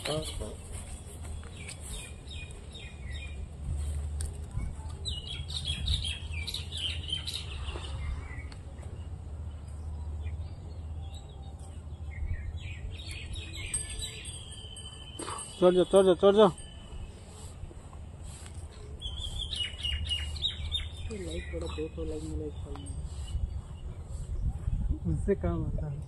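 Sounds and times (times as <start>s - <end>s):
birds chirping: 0.0s - 25.6s.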